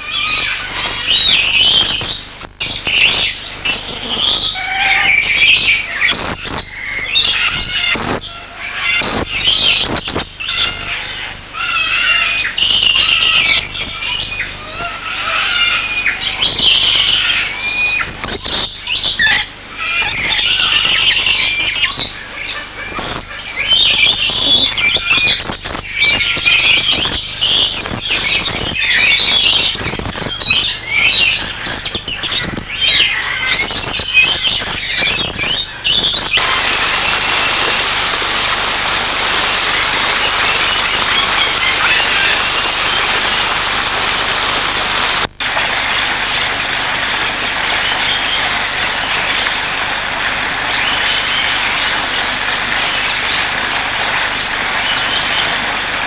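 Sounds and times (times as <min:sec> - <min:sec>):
parrots squawking and chirping: 0:00.0 - 0:56.0.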